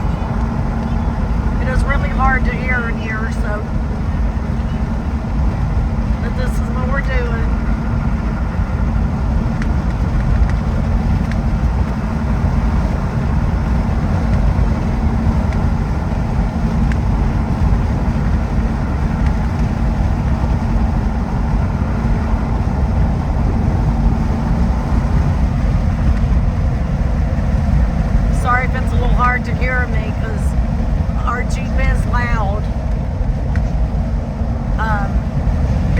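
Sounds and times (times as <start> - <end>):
tire and road rumble in cabin: 0.0 - 35.9.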